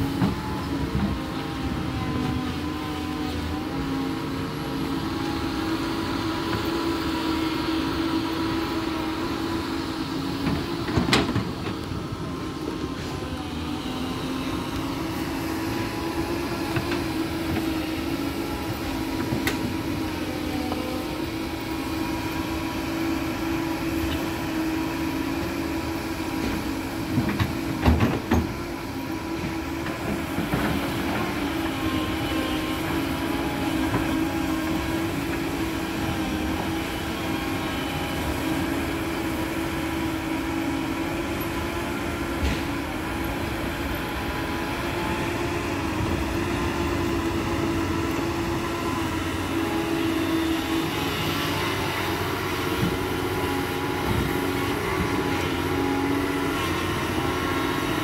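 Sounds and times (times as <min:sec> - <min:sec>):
excavator engine droning: 0:00.0 - 0:58.0.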